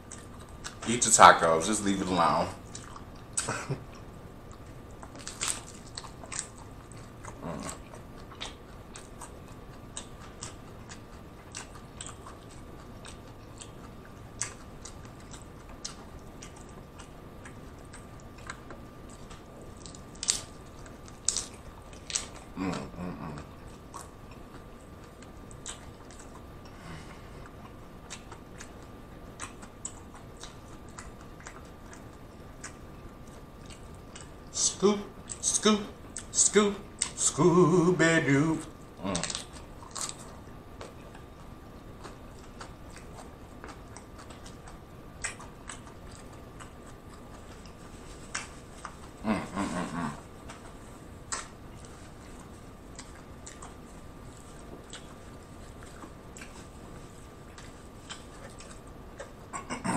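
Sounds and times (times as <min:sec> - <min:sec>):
crunching and chewing tacos: 0:00.0 - 0:59.9.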